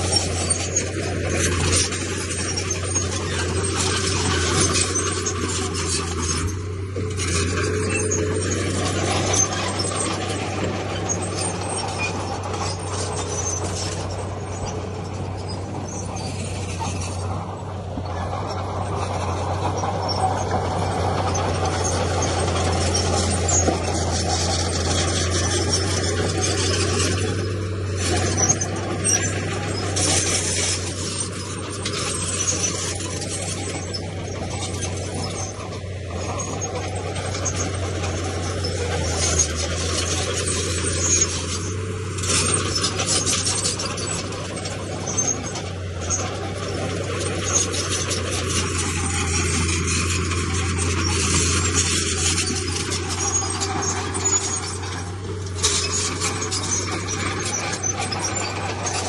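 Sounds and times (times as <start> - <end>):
clanking squealing tracks: 0.0 - 59.0
diesel engine droning: 0.0 - 59.0.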